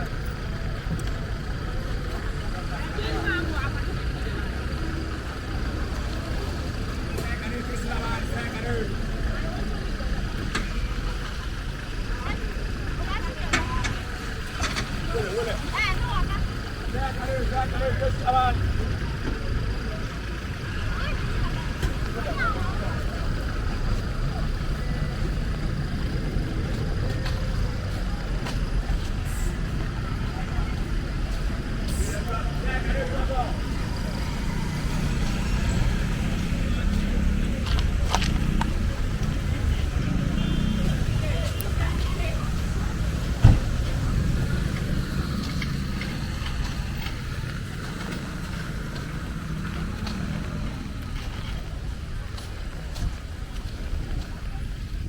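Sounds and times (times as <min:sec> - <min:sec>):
street noise low rumble: 0:00.0 - 0:55.0.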